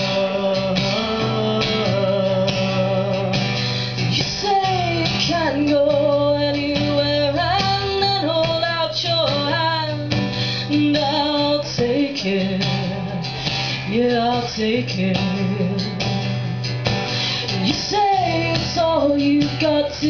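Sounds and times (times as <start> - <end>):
acoustic guitar chords: 0.0 - 20.0
woman singing: 0.0 - 20.0.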